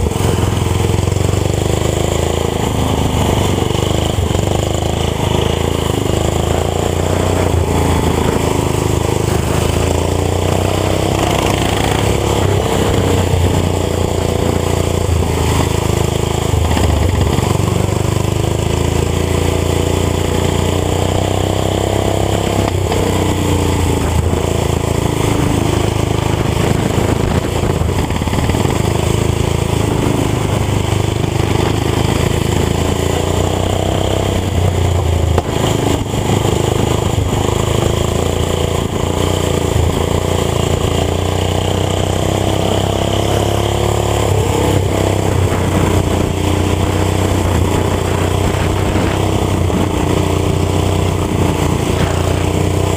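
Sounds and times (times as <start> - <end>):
small engines revving: 0.0 - 52.9.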